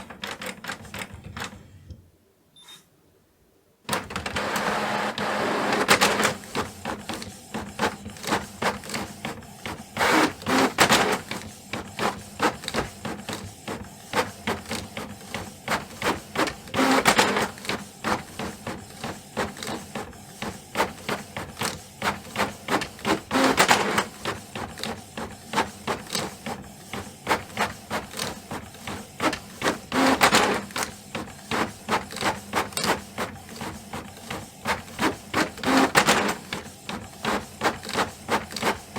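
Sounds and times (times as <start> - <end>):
printer clicking: 0.0 - 1.6, 3.9 - 38.9.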